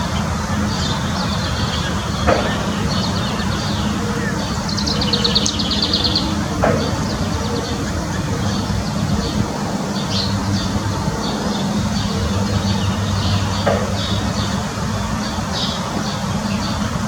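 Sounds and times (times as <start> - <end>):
low mechanical hum: 0.0 - 17.0
small birds chirping and trilling: 0.0 - 17.0.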